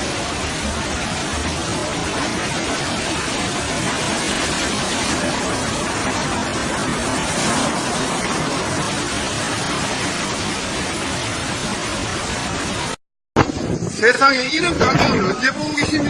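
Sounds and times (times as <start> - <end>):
floodwater surging: 0.0 - 16.0
typhoon wind rushing: 0.0 - 16.0.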